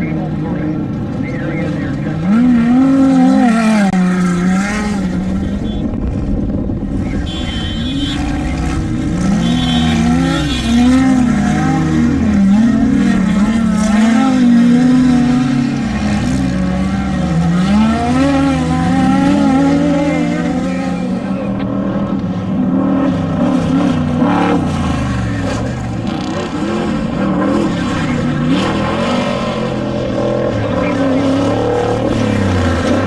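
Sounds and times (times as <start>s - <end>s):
engine revving up and down: 0.0s - 33.0s.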